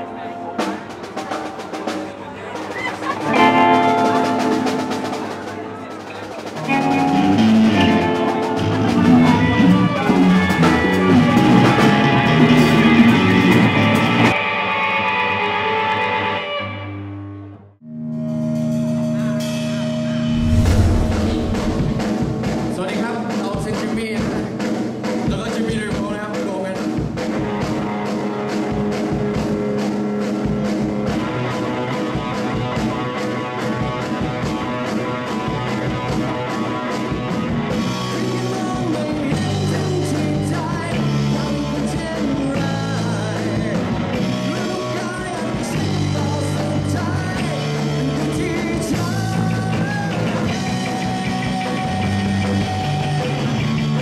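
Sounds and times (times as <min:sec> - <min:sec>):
rock band playing: 0:00.0 - 0:14.6, 0:23.7 - 0:54.0.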